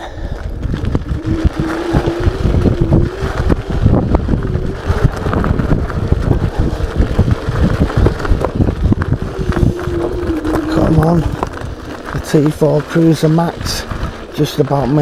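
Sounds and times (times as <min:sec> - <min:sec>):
wind buffeting microphone: 0:00.0 - 0:15.0
tyres and frame rattling on stones: 0:00.2 - 0:15.0
electric motor whine: 0:00.6 - 0:14.9.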